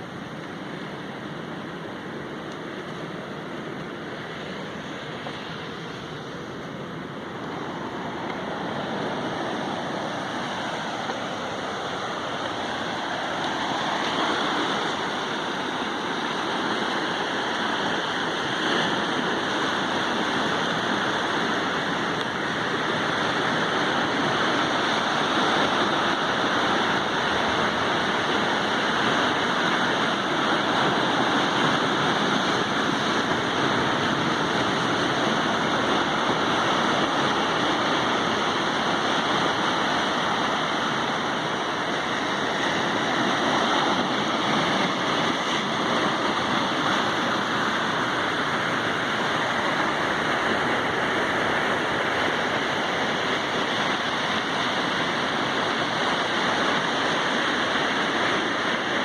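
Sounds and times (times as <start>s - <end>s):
sea surf rushing: 0.0s - 59.0s.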